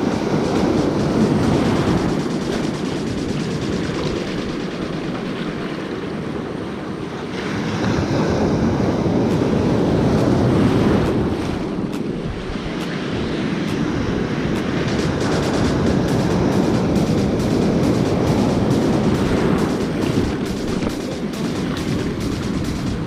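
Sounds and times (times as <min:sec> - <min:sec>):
ocean surf washing onto beach: 0:00.0 - 0:23.0
wind buffeting microphone: 0:00.0 - 0:23.0.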